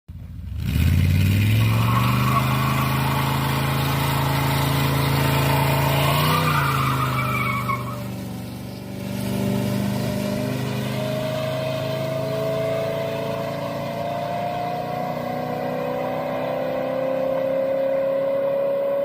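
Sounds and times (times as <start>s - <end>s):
truck engine revving: 0.4s - 19.0s.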